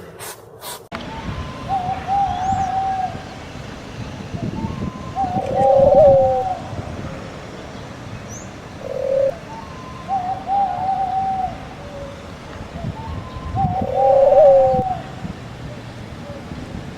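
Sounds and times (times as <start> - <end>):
bird calling in wavering phrases: 1.0 - 16.9.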